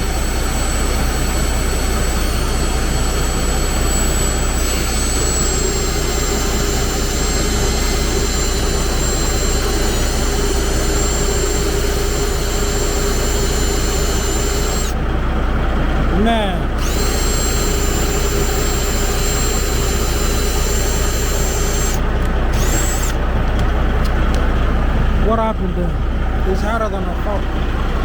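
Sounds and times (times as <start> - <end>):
diesel truck engine idling: 0.1 - 28.0.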